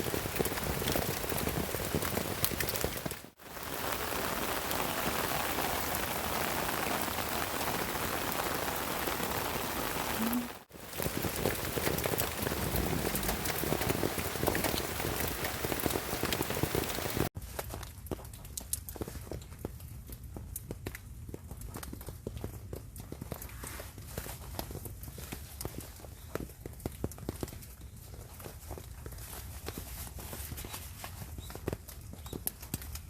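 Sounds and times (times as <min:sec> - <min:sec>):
rain falling on a tarp: 0:00.0 - 0:33.0.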